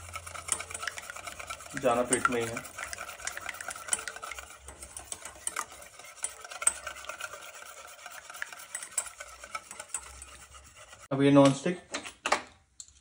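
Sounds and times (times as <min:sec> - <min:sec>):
whisk clicking against steel bowl: 0:00.0 - 0:11.1.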